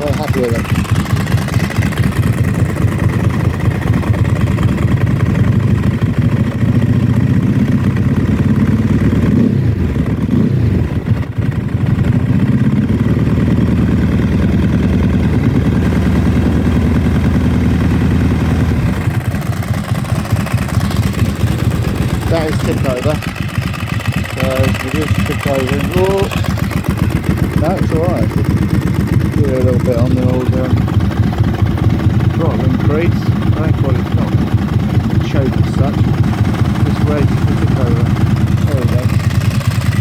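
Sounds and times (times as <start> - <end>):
dry clutch rattle: 0.0 - 40.0
motorcycle engine idling: 0.0 - 40.0.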